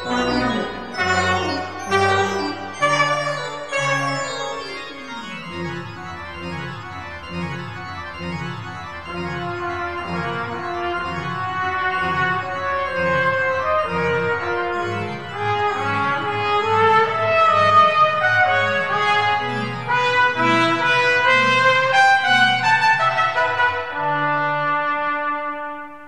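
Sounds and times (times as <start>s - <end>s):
pipe organ playing: 0.0s - 26.0s.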